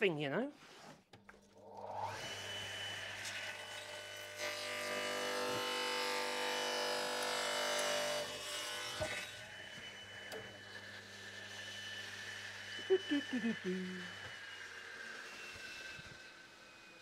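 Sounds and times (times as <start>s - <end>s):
saw motor humming: 2.0s - 16.9s.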